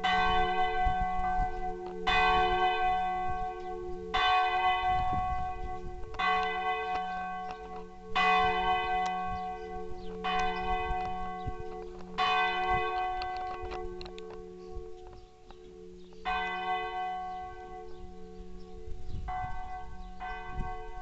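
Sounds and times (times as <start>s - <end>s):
church bell ringing: 0.0s - 21.0s.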